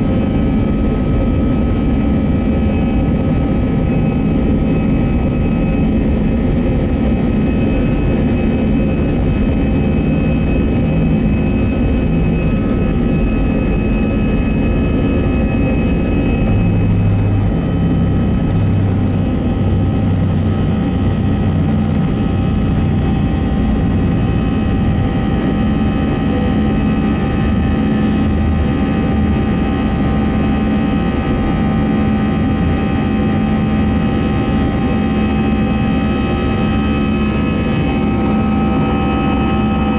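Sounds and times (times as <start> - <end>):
jet engine cabin drone: 0.0 - 39.9
steady whining tones: 0.0 - 39.9.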